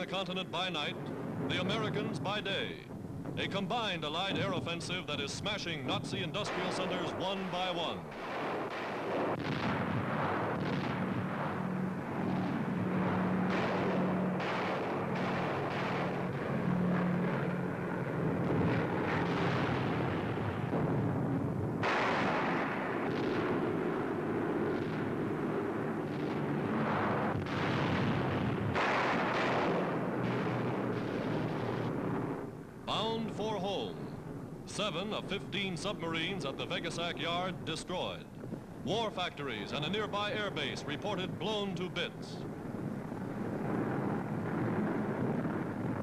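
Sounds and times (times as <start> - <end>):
bombs exploding: 4.1 - 46.0
bomber engines droning: 9.1 - 46.0.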